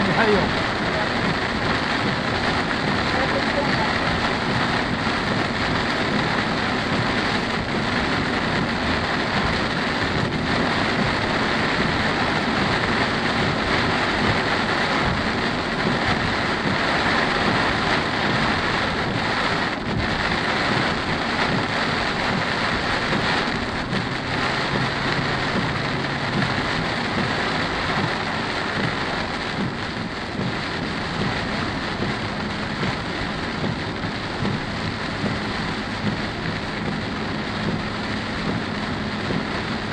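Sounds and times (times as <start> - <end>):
heavy rain on car roof: 0.0 - 39.9
road noise: 0.0 - 39.9.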